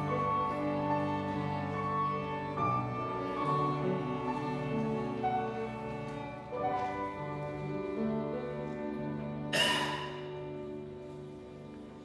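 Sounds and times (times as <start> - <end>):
piano and strings holding a chord: 0.0 - 12.0.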